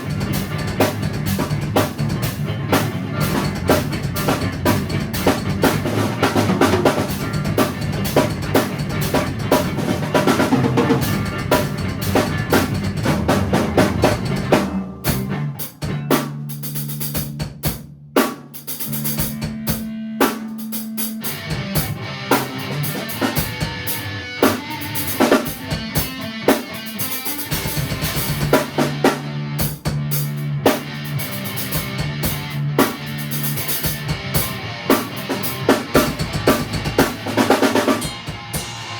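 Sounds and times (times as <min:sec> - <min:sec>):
guitar holding low notes: 0:00.0 - 0:16.1, 0:21.2 - 0:38.9
drum kit playing a busy beat: 0:00.0 - 0:38.9.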